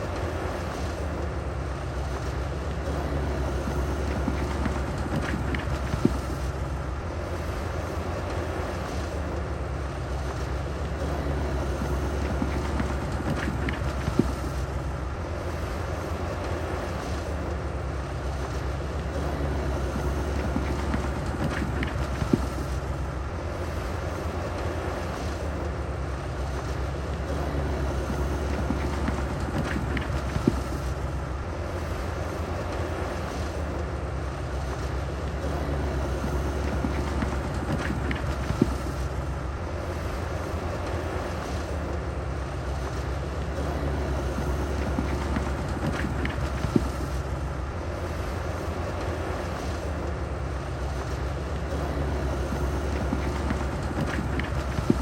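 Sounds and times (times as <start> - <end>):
diesel construction machinery rumbling: 0.0 - 55.0.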